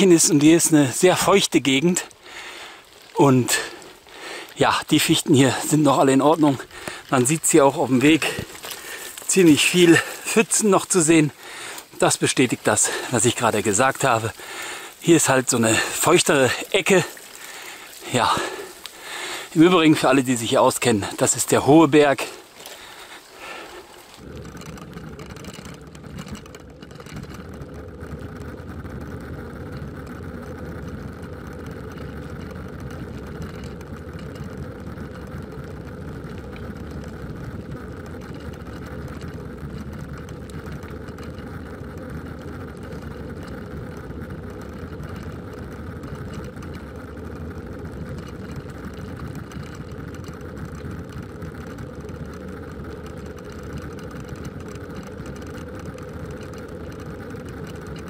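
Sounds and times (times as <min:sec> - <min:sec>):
bicycle rolling on asphalt: 0:00.0 - 0:58.0.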